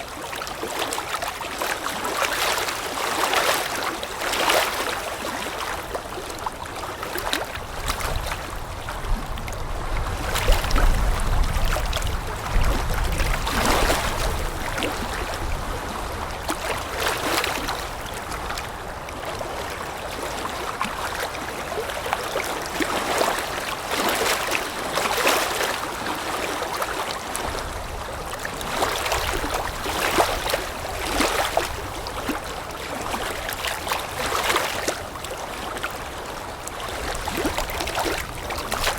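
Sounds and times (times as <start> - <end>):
water lapping: 0.0 - 38.9.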